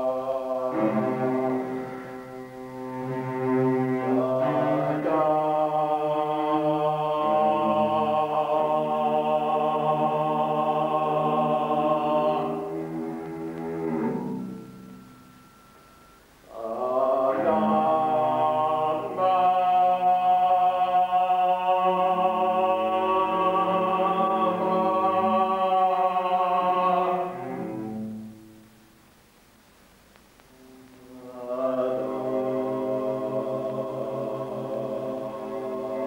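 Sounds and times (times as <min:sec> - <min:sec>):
person singing long sliding notes: 0:00.0 - 0:14.6, 0:16.4 - 0:28.3, 0:30.9 - 0:36.0.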